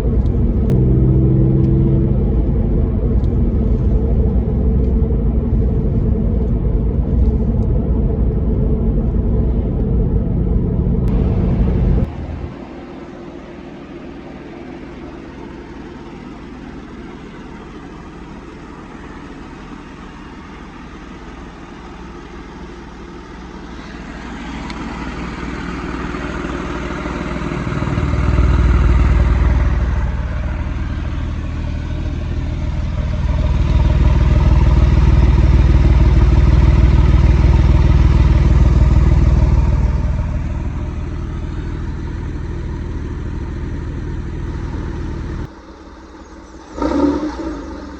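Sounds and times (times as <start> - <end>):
car engine idling and revving: 0.0 - 47.9.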